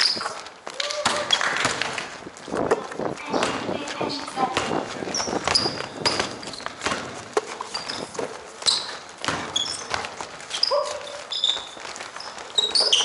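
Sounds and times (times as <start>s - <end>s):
running footsteps: 0.0s - 13.0s
sneakers squeaking: 0.0s - 13.0s
basketball dribbling: 1.0s - 13.0s.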